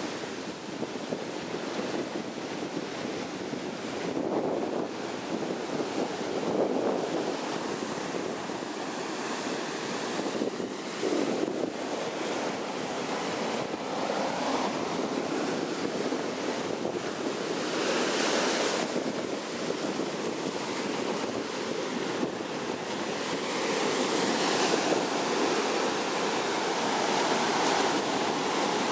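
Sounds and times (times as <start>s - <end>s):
ocean surf breaking on beach: 0.0s - 28.9s
wind buffeting microphone: 0.0s - 28.9s.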